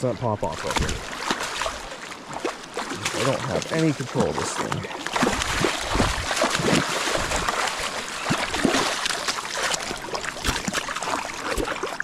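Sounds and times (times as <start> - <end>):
fish splashing in shallow water: 0.3 - 12.0.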